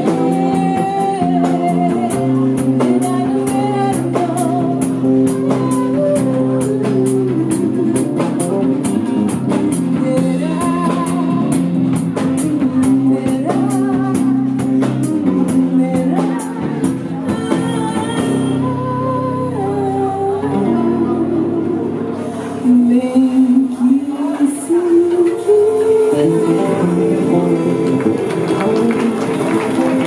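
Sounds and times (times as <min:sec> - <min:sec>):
acoustic guitars: 0:00.0 - 0:30.0
bass: 0:00.0 - 0:30.0
woman singing into a microphone: 0:00.0 - 0:30.0.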